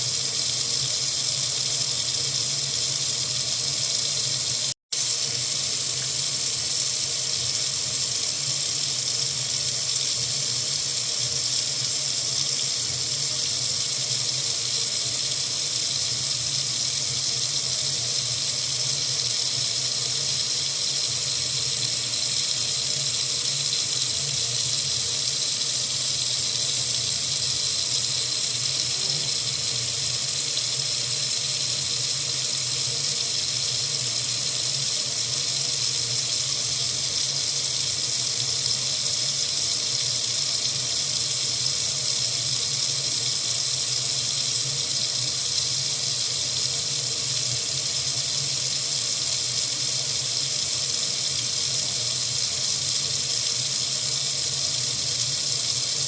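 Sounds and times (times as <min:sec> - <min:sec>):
water faucet running: 0:00.0 - 0:56.0.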